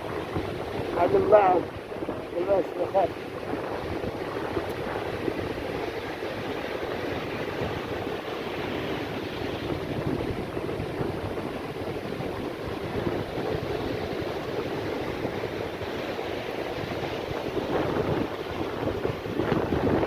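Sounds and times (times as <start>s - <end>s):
rough sea surf washing on shore: 0.0s - 20.0s
wind rumbling on microphone: 0.0s - 20.0s.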